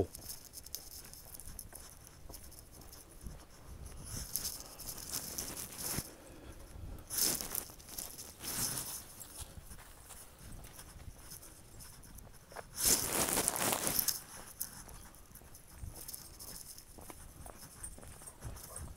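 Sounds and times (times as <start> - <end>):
footsteps in dry leaves: 0.0 - 6.2, 7.0 - 18.8.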